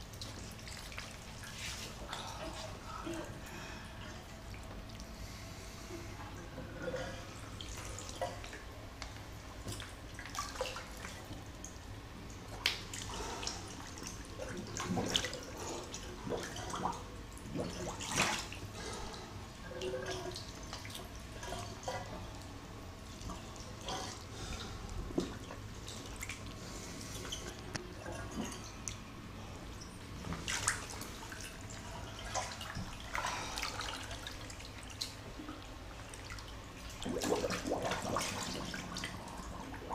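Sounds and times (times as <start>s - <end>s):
bathwater splashing and dripping: 0.0s - 5.2s, 7.3s - 39.9s
steady low hum: 0.0s - 39.9s.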